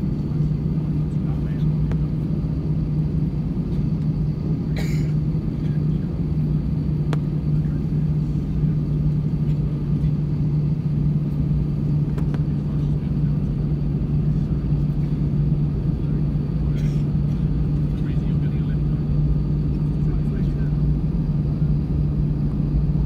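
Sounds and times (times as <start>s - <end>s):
aircraft engines idling hum: 0.0s - 23.0s.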